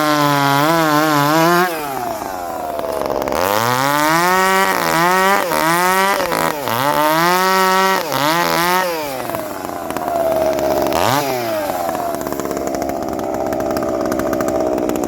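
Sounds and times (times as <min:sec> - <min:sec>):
chainsaw cutting log: 0:00.0 - 0:15.0.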